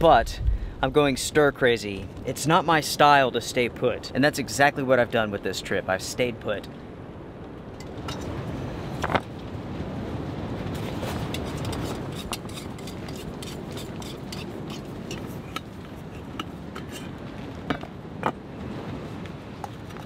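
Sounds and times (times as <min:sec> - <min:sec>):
strong wind on tent: 0:00.0 - 0:20.0.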